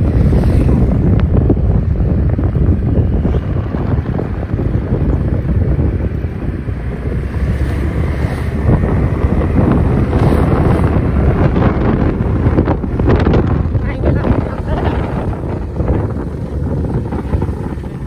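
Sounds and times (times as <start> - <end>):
road and engine noise: 0.0 - 18.0
wind buffeting microphone: 0.0 - 18.0.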